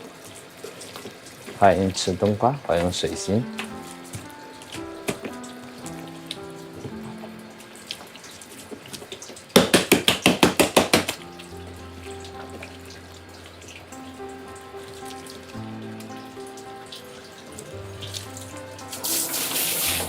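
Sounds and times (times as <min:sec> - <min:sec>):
background music: 0:00.0 - 0:08.8, 0:10.4 - 0:20.0
water running from a tap: 0:00.0 - 0:20.0.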